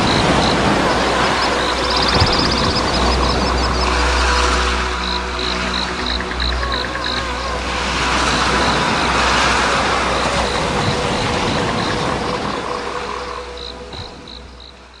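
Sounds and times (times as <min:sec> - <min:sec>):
surf-like rushing noise: 0:00.0 - 0:14.9.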